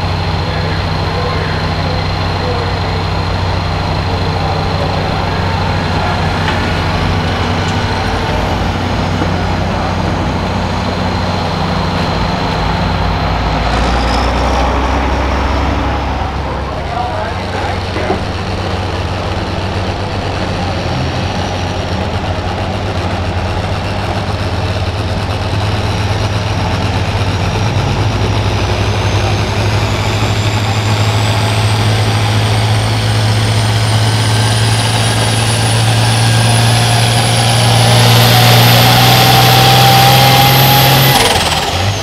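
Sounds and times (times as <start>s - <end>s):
high turbocharger whine: 0.0s - 42.0s
tractor diesel engine under load: 0.0s - 42.0s.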